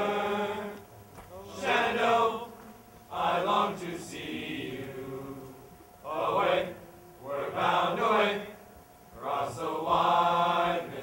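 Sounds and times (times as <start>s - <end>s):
mixed chorus singing: 0.0s - 11.0s.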